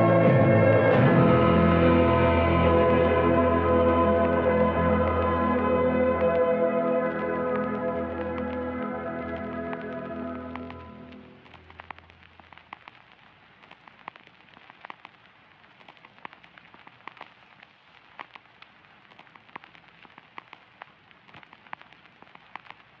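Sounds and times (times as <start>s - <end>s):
steady soft hiss: 1.4s - 23.0s
sharp pops and ticks: 3.9s - 23.0s.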